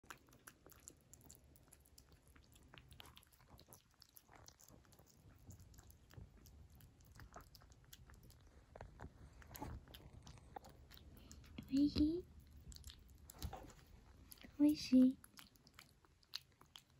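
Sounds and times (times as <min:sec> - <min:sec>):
kitten chewing wet food: 0:00.0 - 0:16.9.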